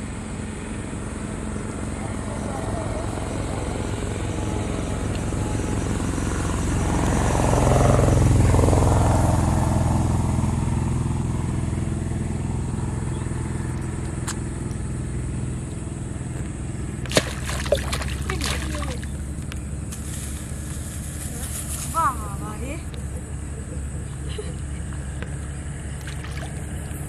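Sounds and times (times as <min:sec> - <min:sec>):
passing motor engine drone: 0:00.0 - 0:27.0.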